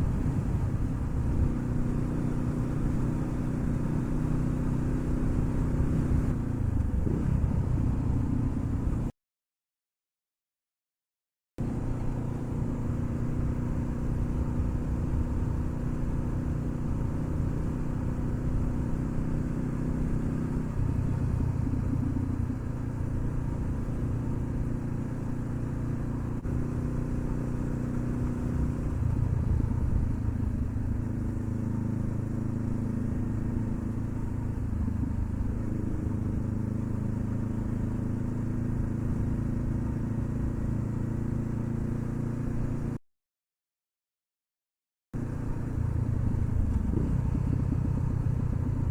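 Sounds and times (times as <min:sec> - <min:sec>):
motorcycle engine running: 0:00.0 - 0:09.1, 0:11.6 - 0:43.0, 0:45.2 - 0:48.9.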